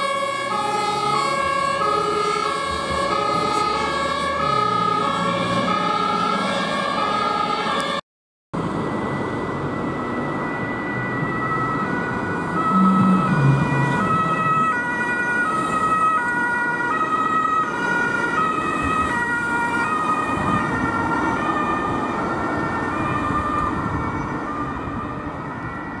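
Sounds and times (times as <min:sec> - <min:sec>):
two-tone sirens: 0:00.0 - 0:08.0, 0:08.6 - 0:26.0
road traffic noise: 0:00.0 - 0:26.0.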